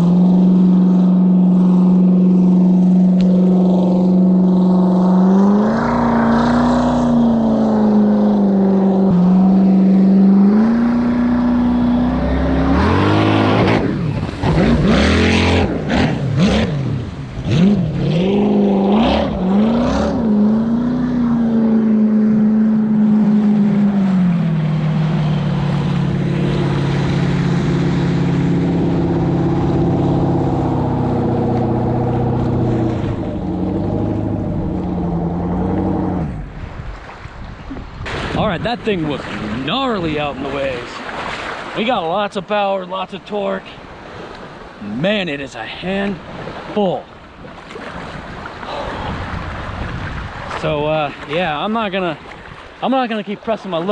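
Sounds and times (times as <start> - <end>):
jet ski engine revving past: 0.0 - 37.1, 47.5 - 53.9
jet ski engines running: 0.0 - 53.9.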